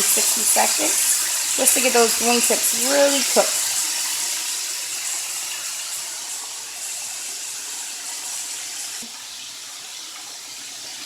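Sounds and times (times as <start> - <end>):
chicken wings deep-frying in oil: 0.0 - 11.0.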